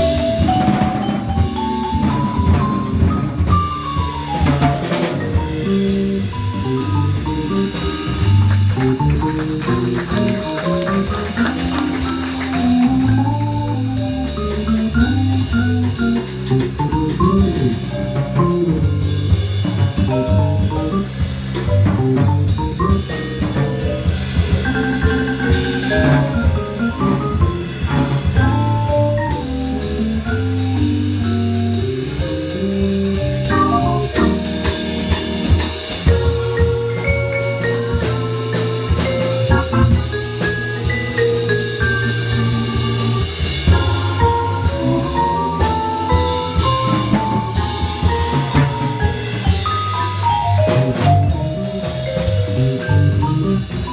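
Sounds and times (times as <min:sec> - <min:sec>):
vibraphone melody: 0:00.0 - 0:18.3, 0:24.5 - 0:27.8, 0:28.4 - 0:53.9
electric keyboard: 0:00.0 - 0:19.6, 0:20.2 - 0:53.9
drum kit with cymbals: 0:00.0 - 0:53.9.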